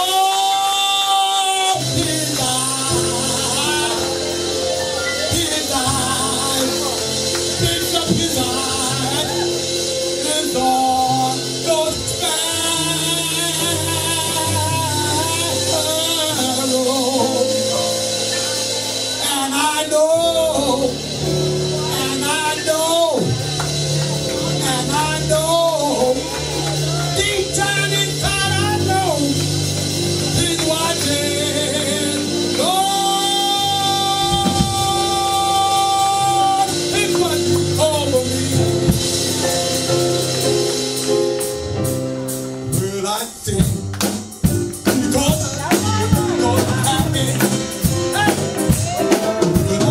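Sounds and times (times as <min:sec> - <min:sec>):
person singing gospel melody: 0:00.0 - 0:49.9
sustained keyboard chords: 0:00.0 - 0:49.9.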